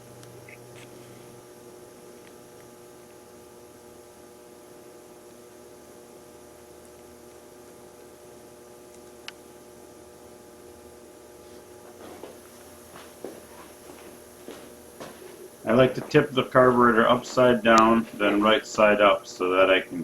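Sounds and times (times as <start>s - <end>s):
faint electrical hum and hiss: 0.0s - 20.0s.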